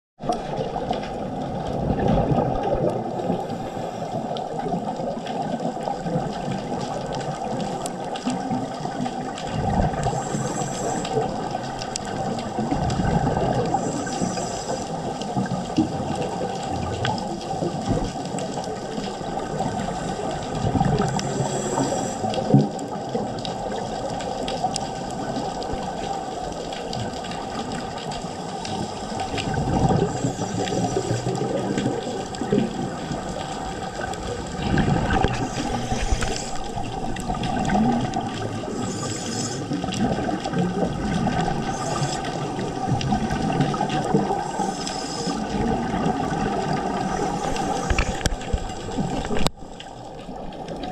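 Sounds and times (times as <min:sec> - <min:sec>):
exhaled air bubbling underwater: 0:00.2 - 0:50.9
water hiss: 0:02.6 - 0:50.4.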